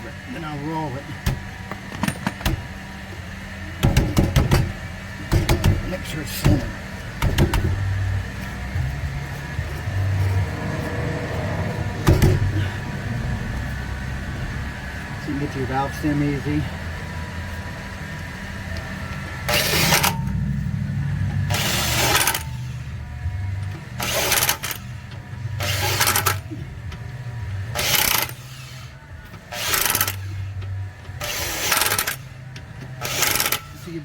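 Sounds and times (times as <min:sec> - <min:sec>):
steady low hum: 0:00.0 - 0:34.0
electric impact wrench bursts: 0:00.3 - 0:23.2, 0:23.9 - 0:26.6, 0:27.7 - 0:30.6, 0:31.2 - 0:32.4, 0:33.0 - 0:34.0.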